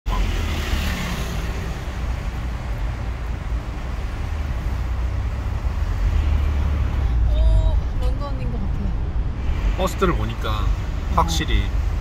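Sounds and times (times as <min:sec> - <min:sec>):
van engine and tyres rumbling: 0:00.0 - 0:12.0.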